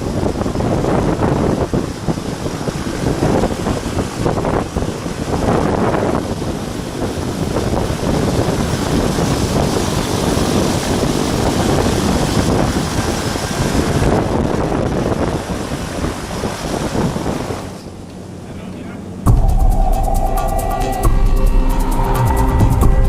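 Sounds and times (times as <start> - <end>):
turboprop engines roaring: 0.0 - 23.0
wind buffeting microphone: 0.0 - 23.0.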